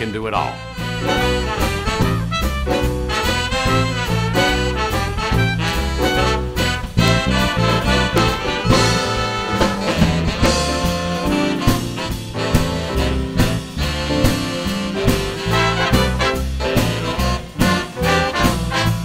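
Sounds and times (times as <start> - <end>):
big band swing music: 0.0 - 19.0.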